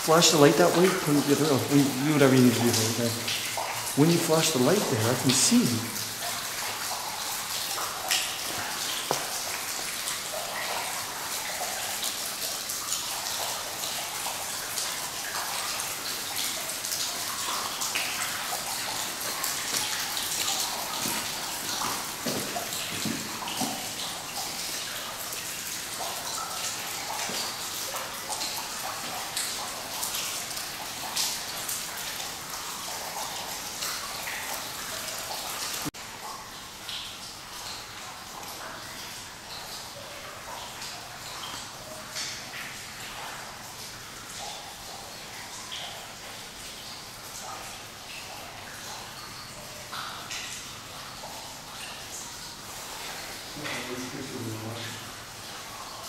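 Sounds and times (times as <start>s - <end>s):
water dripping from ceiling: 0.0s - 56.0s.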